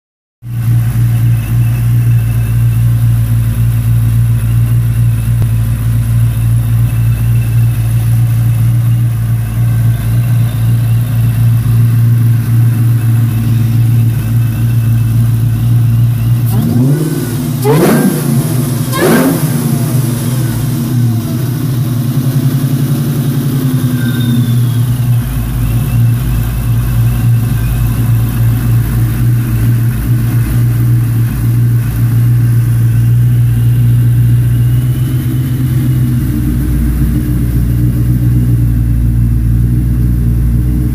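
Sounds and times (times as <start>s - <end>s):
car engine idling and revving: 0.4s - 40.9s.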